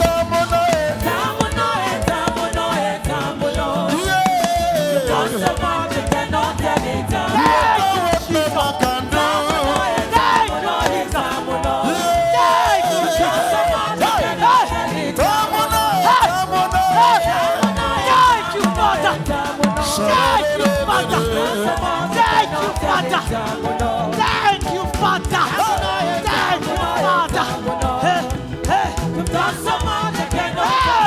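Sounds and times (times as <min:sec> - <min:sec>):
band playing a steady beat: 0:00.0 - 0:31.0
congregation singing and shouting: 0:00.0 - 0:31.0.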